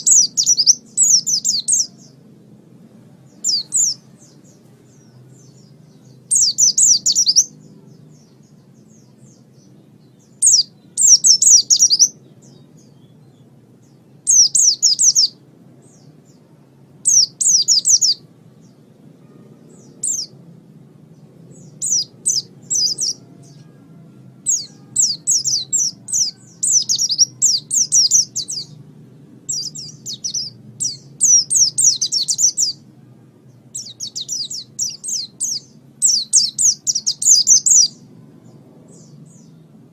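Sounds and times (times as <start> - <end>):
faint steady low hum: 0.0 - 39.9.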